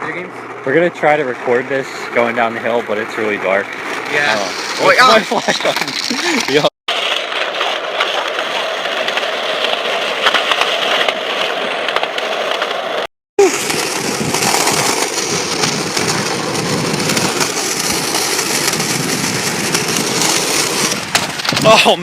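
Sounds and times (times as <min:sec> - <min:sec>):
wheels rolling on pavement: 0:00.0 - 0:22.0.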